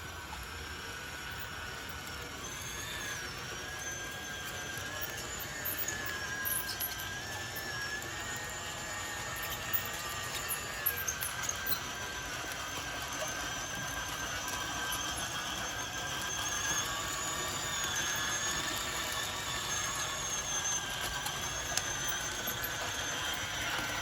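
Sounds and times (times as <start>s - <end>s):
toy bulldozer high whine: 0.0s - 24.0s.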